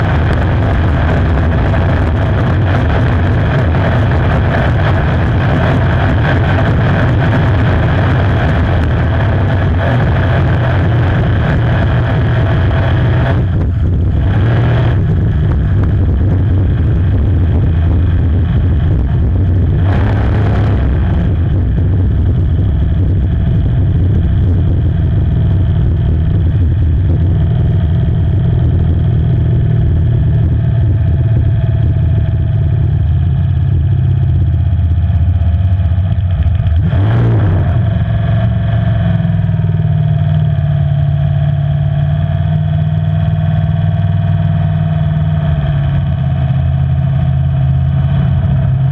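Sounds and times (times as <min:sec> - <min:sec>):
boat engine running steadily: 0:00.0 - 0:48.9.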